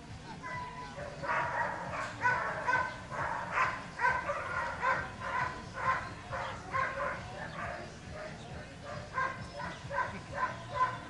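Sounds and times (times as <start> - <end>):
dog barking: 1.0 - 11.0.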